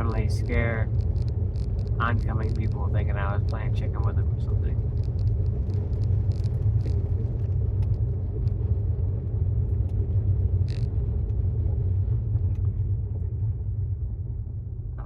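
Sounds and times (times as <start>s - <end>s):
road and tyre rumble: 0.0s - 15.0s.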